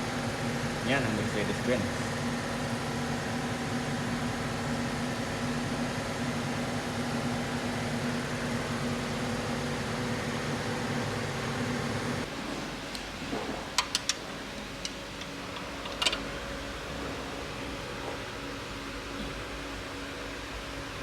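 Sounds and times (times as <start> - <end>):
motor humming steadily: 0.0 - 21.0.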